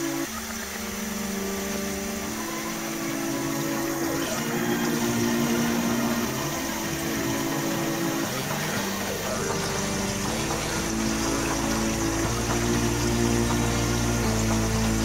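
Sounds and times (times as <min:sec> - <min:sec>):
electronic music with synth notes: 0:00.0 - 0:15.0
steady rushing hiss: 0:00.0 - 0:15.0.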